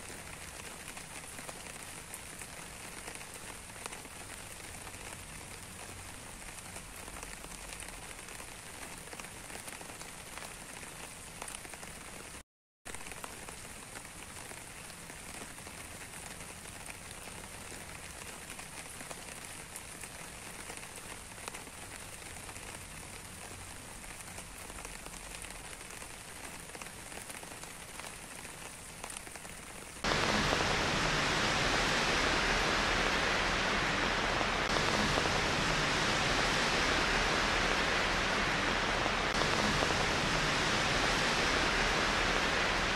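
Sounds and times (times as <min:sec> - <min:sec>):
loud dense rain hiss: 0:00.0 - 0:42.9
rain falling: 0:00.0 - 0:42.9.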